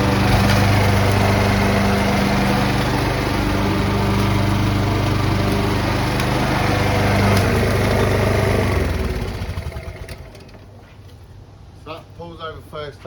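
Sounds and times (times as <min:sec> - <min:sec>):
lawnmower engine running: 0:00.0 - 0:10.8.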